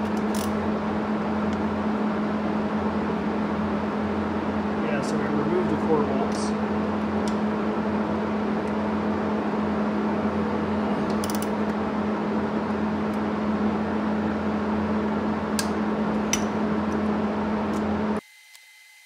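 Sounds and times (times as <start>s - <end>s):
steady mechanical hum: 0.0s - 18.2s.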